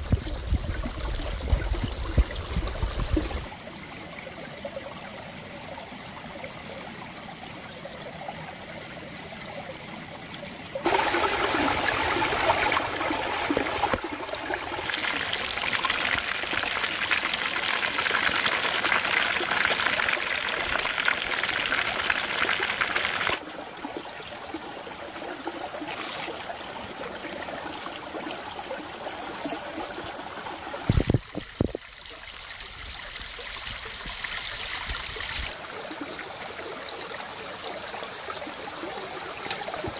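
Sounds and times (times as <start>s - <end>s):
creek running over stones: 0.0s - 39.9s.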